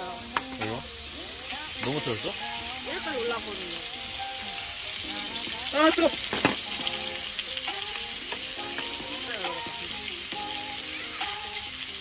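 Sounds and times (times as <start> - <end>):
faint melody: 0.0 - 12.0
food sizzling in a pan: 0.0 - 12.0.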